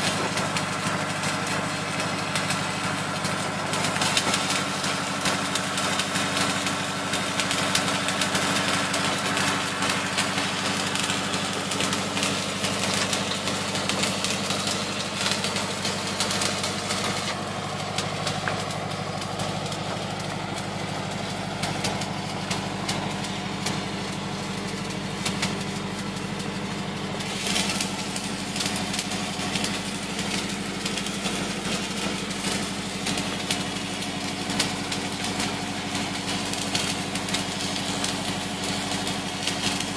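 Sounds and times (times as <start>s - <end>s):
arc welding crackle: 0.0s - 39.9s
steady engine hum: 0.0s - 39.9s.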